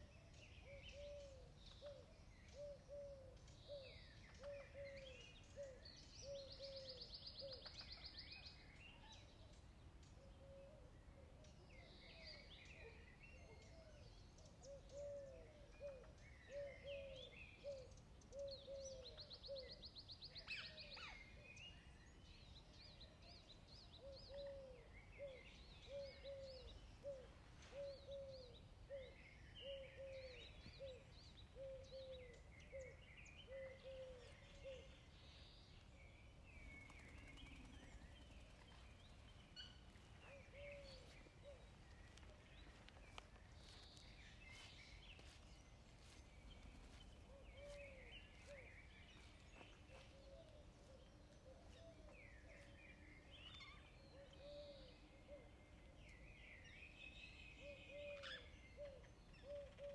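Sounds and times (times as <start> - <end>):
faint small birds chirping: 0.0 - 59.9.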